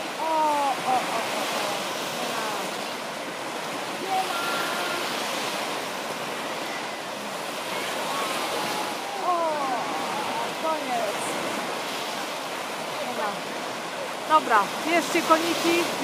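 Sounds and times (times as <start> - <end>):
small waves washing onto beach: 0.0 - 16.0.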